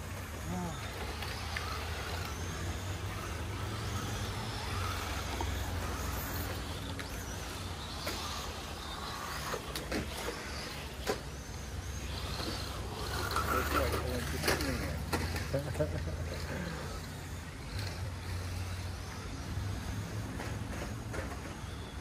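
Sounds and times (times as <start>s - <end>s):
radio-controlled car motors whining: 0.0s - 22.0s
steady low hum: 0.0s - 22.0s.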